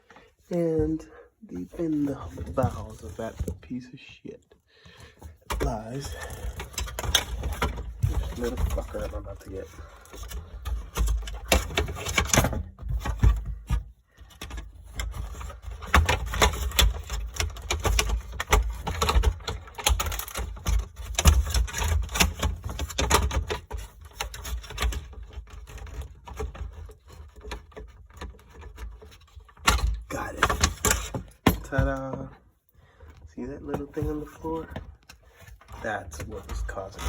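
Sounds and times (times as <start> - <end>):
plastic clicking and scraping: 4.4 - 32.4, 33.0 - 37.0.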